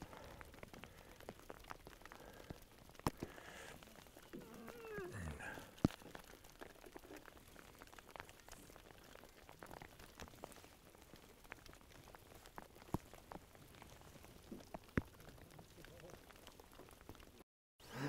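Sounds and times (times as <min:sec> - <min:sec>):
light rain drops ticking: 0:00.0 - 0:18.0.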